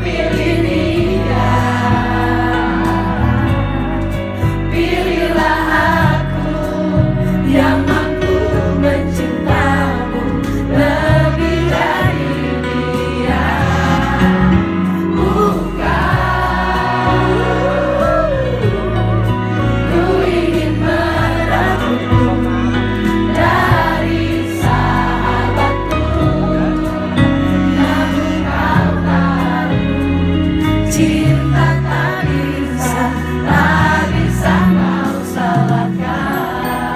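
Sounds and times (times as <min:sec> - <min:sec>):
band accompaniment with bass: 0:00.0 - 0:36.9
person singing pop ballad: 0:00.0 - 0:36.9.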